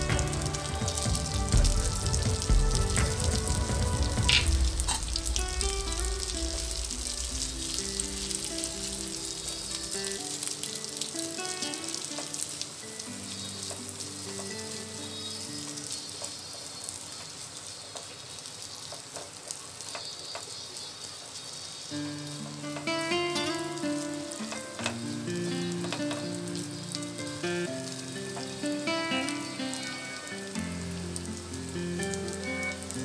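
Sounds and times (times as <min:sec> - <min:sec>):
soft background music: 0:00.0 - 0:17.0, 0:22.0 - 0:33.0
food sizzling in a frying pan: 0:00.0 - 0:33.0.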